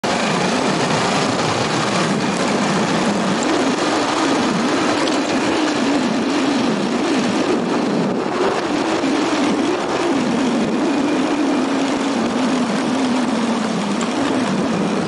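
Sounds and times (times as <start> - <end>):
motorbike engine running: 0.0 - 15.0
road noise: 0.0 - 15.0
wind noise: 0.0 - 15.0.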